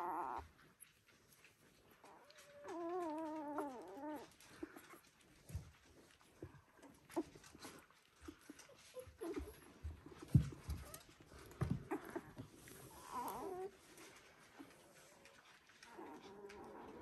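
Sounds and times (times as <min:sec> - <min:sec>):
puppies stirring with soft bumps: 0:00.0 - 0:17.0
puppy whimper: 0:00.0 - 0:17.0.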